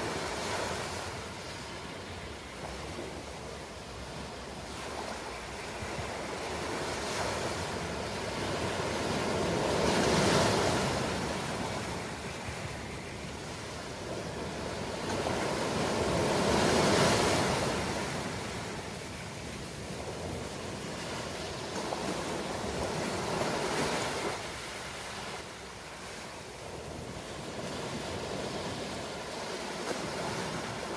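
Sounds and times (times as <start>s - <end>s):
ocean waves washing onto shore: 0.0s - 30.9s.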